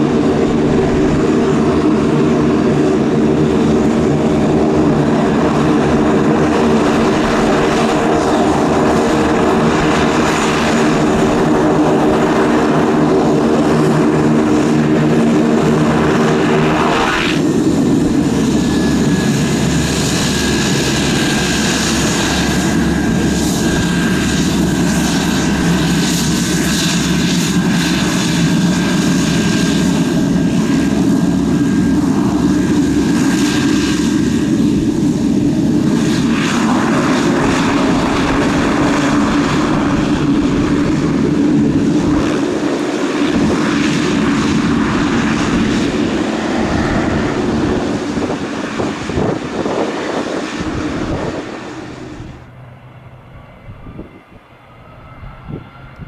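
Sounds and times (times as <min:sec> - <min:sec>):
high turbine whine: 0:00.0 - 0:56.0
propeller aircraft drone: 0:00.0 - 0:56.0.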